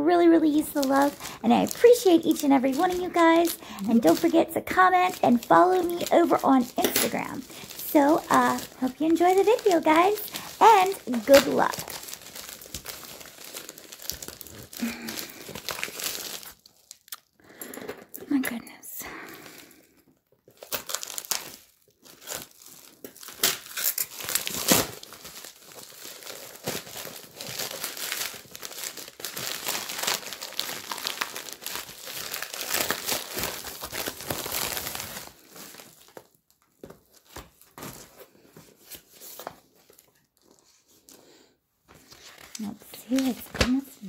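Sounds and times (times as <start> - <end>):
plastic bag crinkling: 0.0 - 17.4, 20.4 - 38.1, 42.0 - 44.0.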